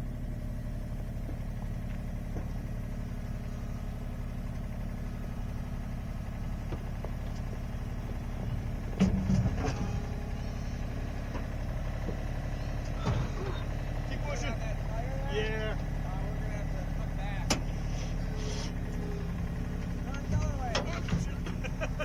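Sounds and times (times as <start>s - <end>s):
engine idling: 0.0s - 22.0s
engine knocks: 0.0s - 22.0s.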